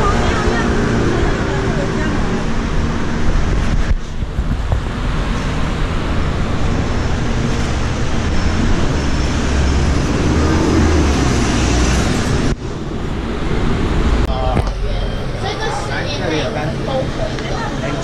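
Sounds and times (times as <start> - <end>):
heavy low rumble: 0.0 - 17.9
passing vehicles: 0.0 - 18.0.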